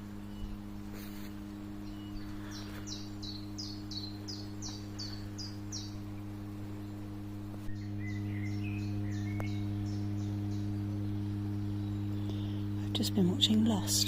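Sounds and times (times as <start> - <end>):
power line hum: 0.0 - 14.0
songbird singing: 0.0 - 14.0.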